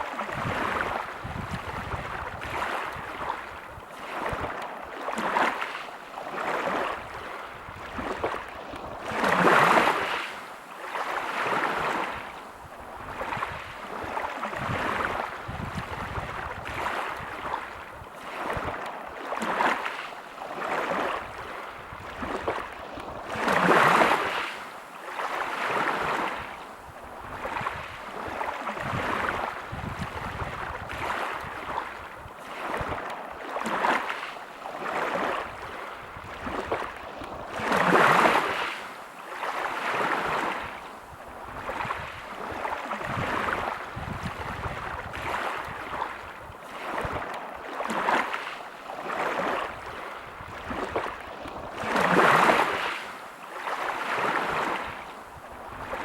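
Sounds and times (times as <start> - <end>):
waves breaking on pebble beach: 0.0 - 12.4, 13.1 - 26.5, 27.3 - 40.8, 41.5 - 56.0.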